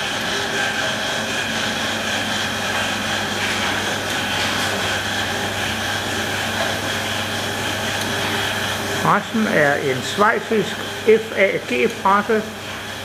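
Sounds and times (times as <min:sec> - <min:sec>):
press mechanical hum: 0:00.0 - 0:13.0.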